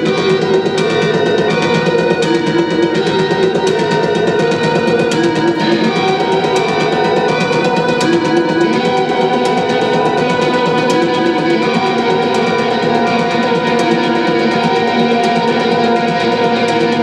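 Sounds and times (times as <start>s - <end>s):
electric guitar fast picking: 0.0s - 17.0s.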